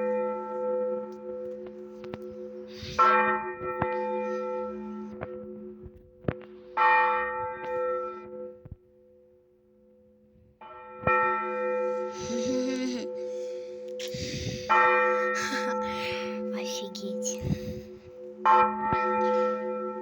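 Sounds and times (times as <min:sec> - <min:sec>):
large church bell ringing: 0:00.0 - 0:12.3, 0:14.6 - 0:20.0.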